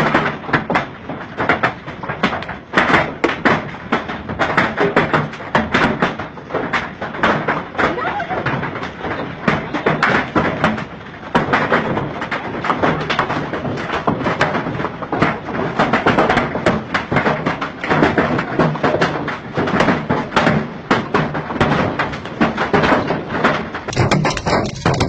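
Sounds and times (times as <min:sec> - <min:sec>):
hail pounding hard surfaces: 0:00.0 - 0:25.0.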